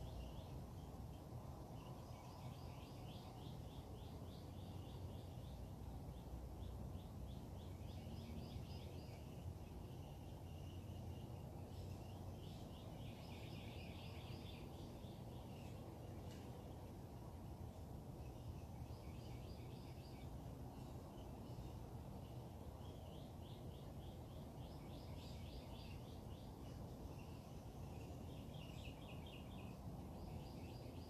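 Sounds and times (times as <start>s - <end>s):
birds chirping and trilling: 0.0s - 31.0s
low background rumble: 0.0s - 31.0s.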